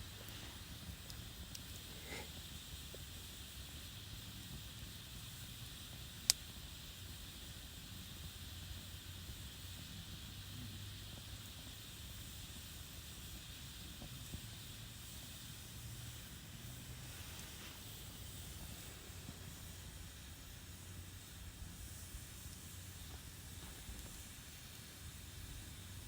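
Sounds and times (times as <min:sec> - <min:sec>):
campfire crackling pops: 0:00.0 - 0:26.0
campfire hissing: 0:00.0 - 0:26.0.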